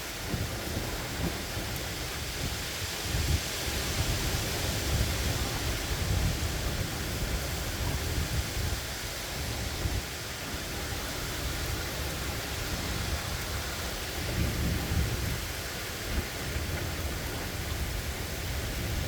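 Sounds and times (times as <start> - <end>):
rain hiss: 0.0 - 19.0.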